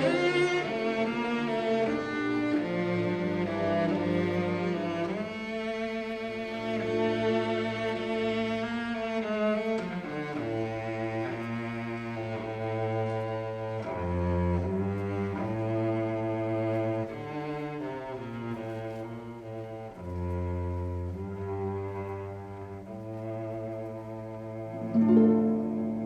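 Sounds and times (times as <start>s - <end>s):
low sustained orchestral strings: 0.0s - 26.0s
solo cello melody: 0.0s - 26.0s.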